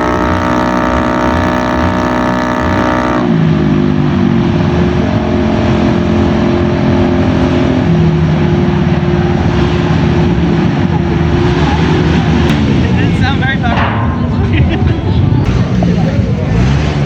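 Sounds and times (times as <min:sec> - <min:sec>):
scooter engine running hard: 0:00.0 - 0:13.5, 0:14.6 - 0:17.0.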